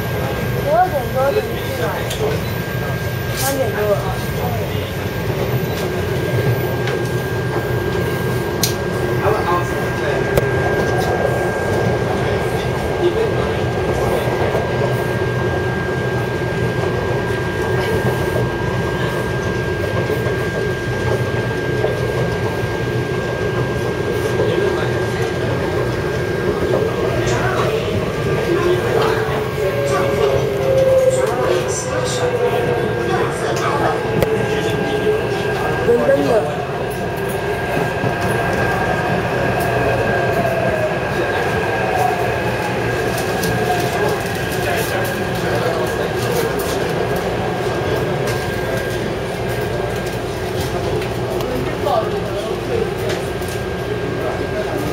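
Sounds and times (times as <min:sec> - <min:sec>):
train rolling rumble: 0:00.0 - 0:54.9.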